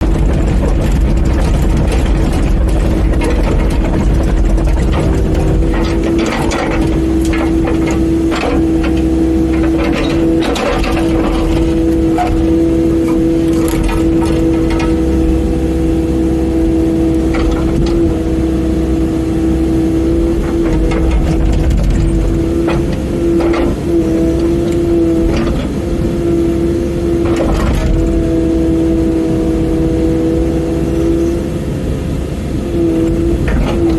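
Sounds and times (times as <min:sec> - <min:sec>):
excavator engine rumble: 0:00.0 - 0:33.9.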